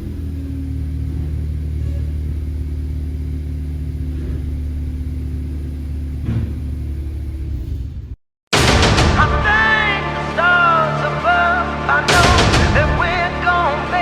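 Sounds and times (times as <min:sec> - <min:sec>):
car exhaust idling: 0:00.0 - 0:14.0.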